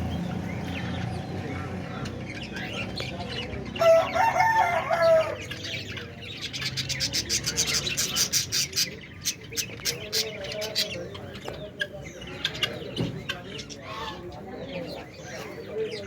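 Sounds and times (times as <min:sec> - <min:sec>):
budgies chirping and chattering: 0:00.0 - 0:16.0.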